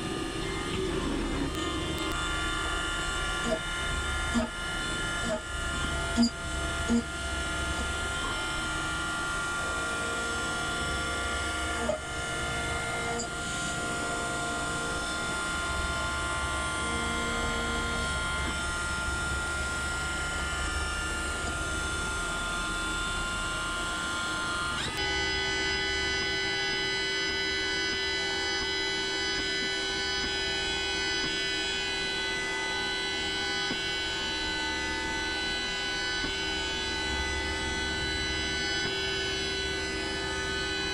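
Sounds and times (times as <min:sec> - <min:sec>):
spindle whine: 0:00.0 - 0:40.9.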